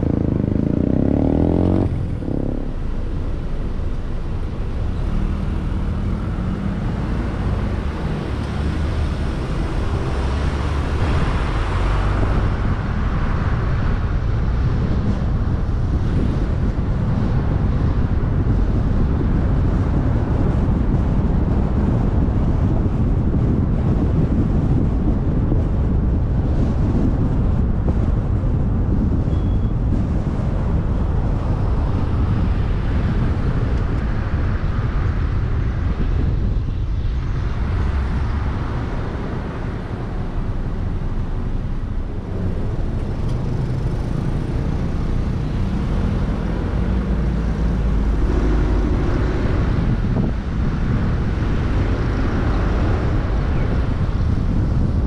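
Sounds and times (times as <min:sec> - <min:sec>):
car road and wind rumble: 0:00.0 - 0:55.0.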